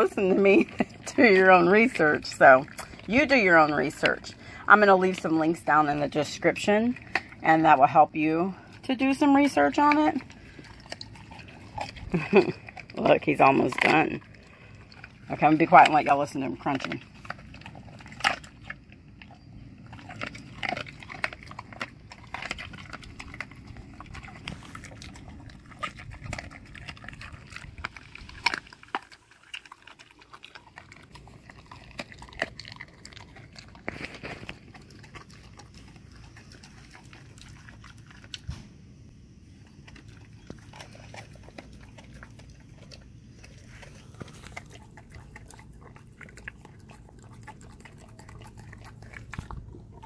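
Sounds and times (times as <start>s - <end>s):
dog crunching bone: 0.0s - 38.6s, 39.3s - 50.0s.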